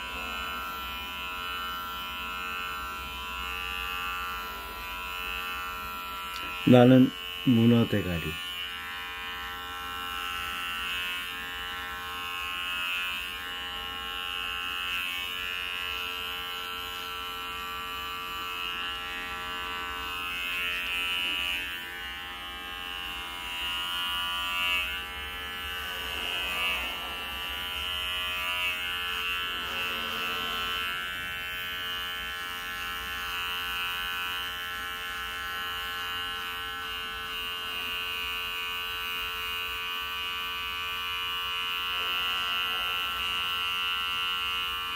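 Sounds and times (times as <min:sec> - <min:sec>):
electric hair clippers buzzing: 0:00.0 - 0:44.9.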